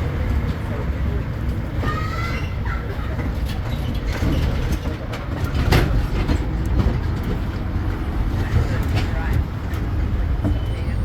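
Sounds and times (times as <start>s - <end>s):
carriages rattling and knocking: 0.0s - 11.0s
engine and tyres rumbling: 0.0s - 11.0s.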